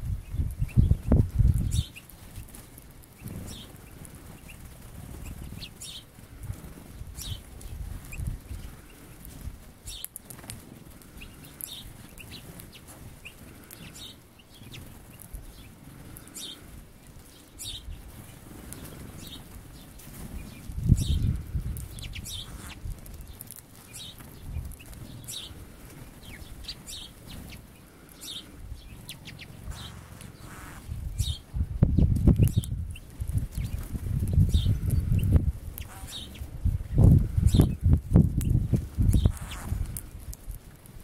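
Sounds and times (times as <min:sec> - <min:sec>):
small birds chirping: 0:00.0 - 0:41.0
bird wings fluttering: 0:00.4 - 0:14.0, 0:14.6 - 0:28.1, 0:29.0 - 0:41.0.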